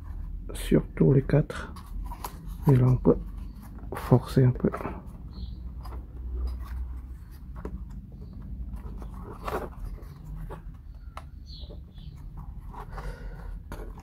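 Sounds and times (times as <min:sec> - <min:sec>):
plywood parts clicking and creaking: 0:01.6 - 0:14.0.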